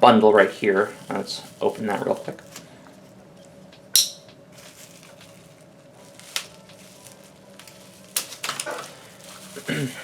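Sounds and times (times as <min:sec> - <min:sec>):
plastic wrapping crinkling: 0:00.4 - 0:10.0.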